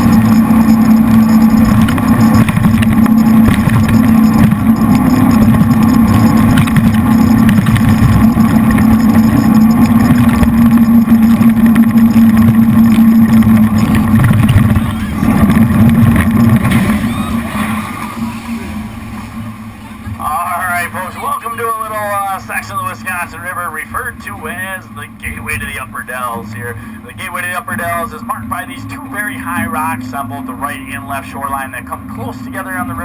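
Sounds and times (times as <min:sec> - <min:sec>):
boat engines droning: 0:00.0 - 0:33.0.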